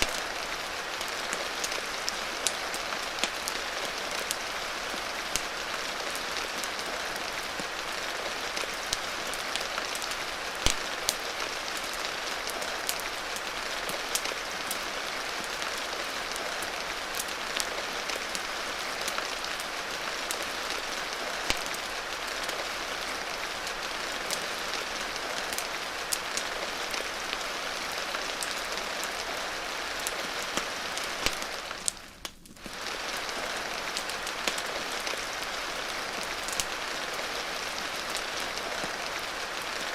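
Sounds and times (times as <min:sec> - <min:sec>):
fireplace crackles: 0:00.0 - 0:39.9
steady rain hiss: 0:00.0 - 0:39.9.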